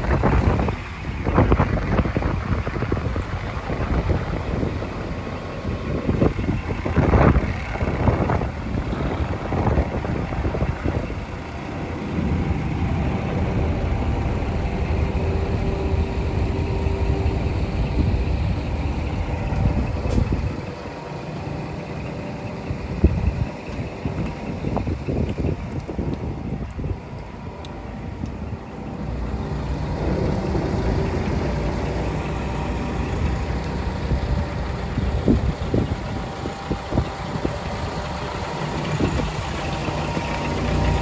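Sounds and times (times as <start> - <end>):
truck diesel engine idling: 0.0 - 41.0.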